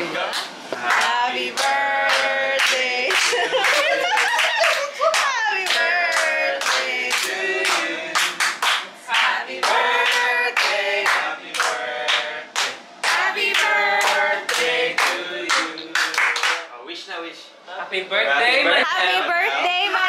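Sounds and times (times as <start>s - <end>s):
group singing a celebration song: 0.0s - 16.7s
people clapping along: 0.2s - 16.7s.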